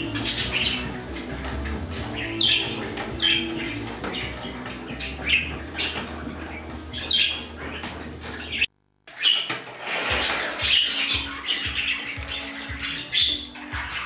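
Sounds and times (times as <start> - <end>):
budgerigars chirping and squawking: 0.0 - 9.5, 10.1 - 14.0.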